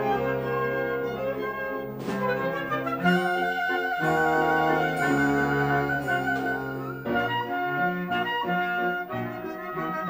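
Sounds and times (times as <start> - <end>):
orchestral music with brass: 0.0 - 10.0.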